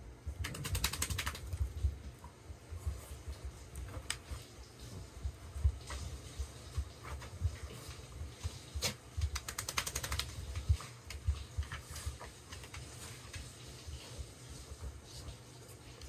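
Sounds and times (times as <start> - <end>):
room heater running: 0.0 - 16.0.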